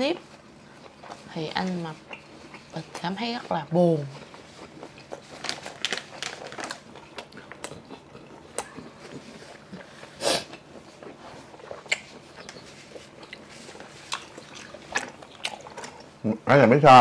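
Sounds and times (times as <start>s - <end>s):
chewing with wet smacks: 0.2s - 16.3s.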